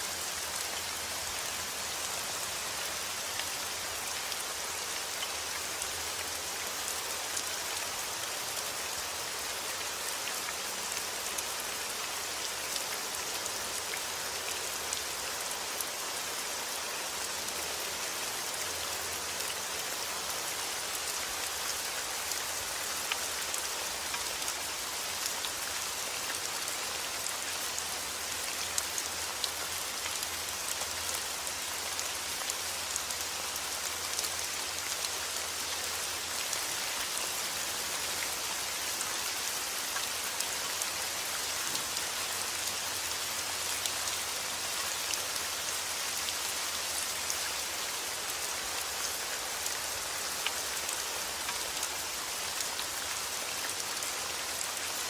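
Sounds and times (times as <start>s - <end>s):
raindrops ticking on surfaces: 0.1s - 55.0s.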